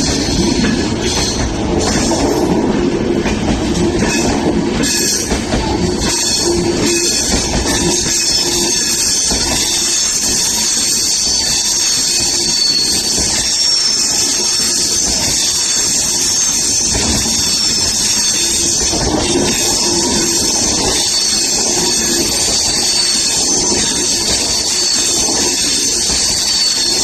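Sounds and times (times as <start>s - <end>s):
high wheel squeal: 0.0s - 27.0s
train passing at speed: 0.0s - 27.0s
wheels clacking over rail joints: 0.0s - 27.0s.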